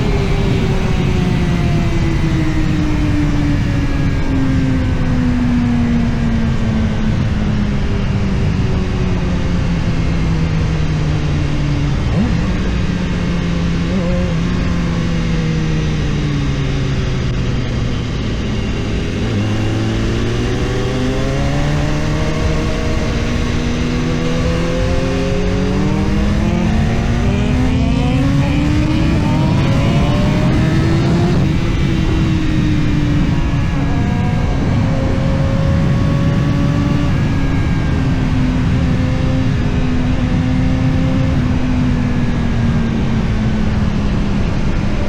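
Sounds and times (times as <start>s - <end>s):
motorcycle engine revving: 0.0s - 45.0s
wind noise: 0.0s - 45.0s.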